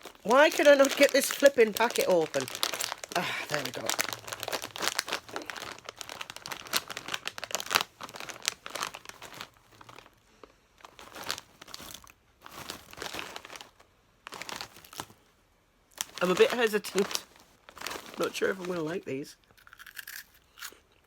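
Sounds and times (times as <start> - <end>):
plastic snack packet crinkling: 0.0 - 15.2, 15.9 - 20.8.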